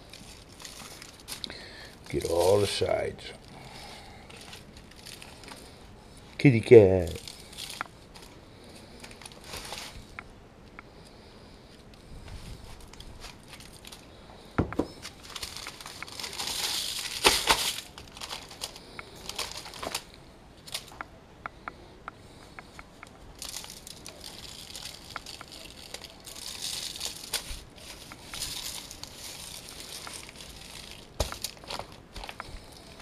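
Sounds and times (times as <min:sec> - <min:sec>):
aluminium foil crinkling: 0:00.0 - 0:10.2, 0:10.9 - 0:21.0, 0:22.3 - 0:33.0.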